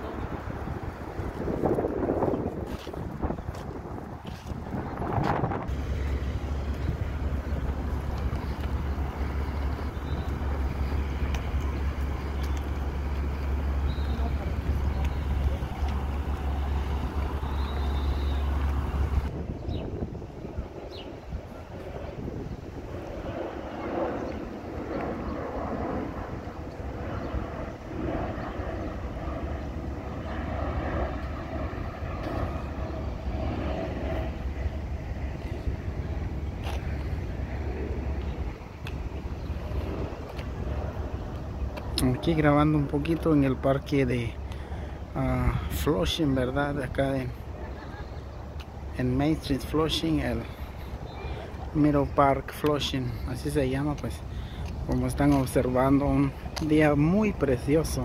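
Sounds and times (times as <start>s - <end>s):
jet airliner flying overhead: 0.0s - 58.0s
wind buffeting microphone: 0.0s - 58.0s.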